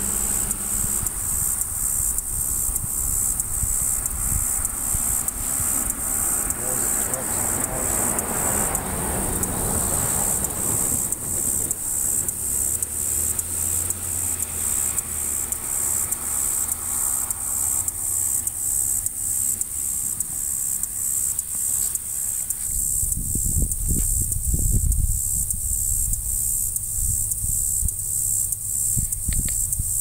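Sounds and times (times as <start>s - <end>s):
insects calling shrill pulses: 0.0s - 30.0s
low engine hum: 0.0s - 30.0s.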